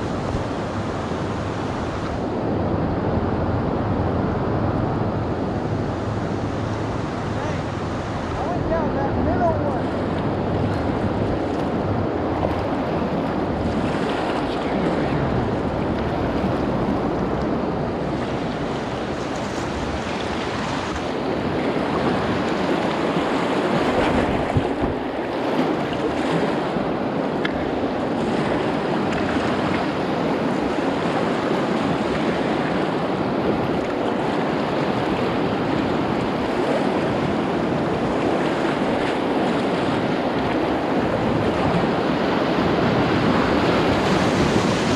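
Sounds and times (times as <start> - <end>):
river water rushing through rapids: 0.0 - 44.9
wind buffeting microphone: 0.0 - 44.9.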